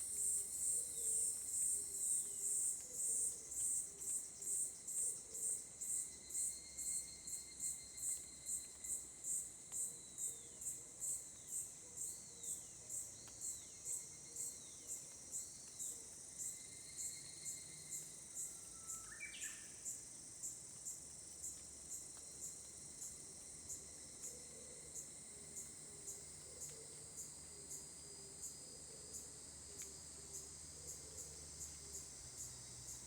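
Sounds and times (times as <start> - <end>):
insect chirping: 0.0 - 9.4, 10.1 - 33.0.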